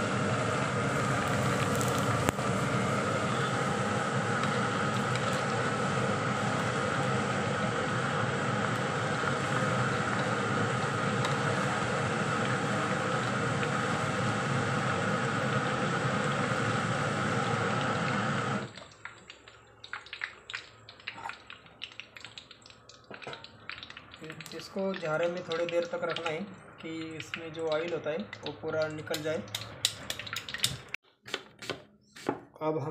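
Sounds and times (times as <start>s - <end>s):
food deep-frying in oil: 0.0s - 31.0s
oil crackling and dripping: 0.2s - 31.1s.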